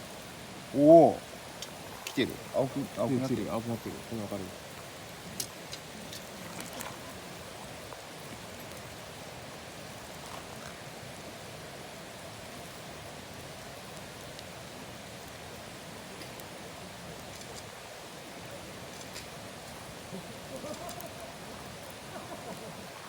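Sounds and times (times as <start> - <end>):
bonfire hissing: 0.0 - 23.0
fire crackles: 0.0 - 23.0.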